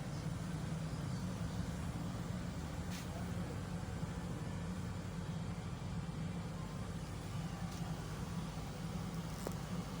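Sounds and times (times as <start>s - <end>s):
machine running low rumble: 0.0s - 10.0s.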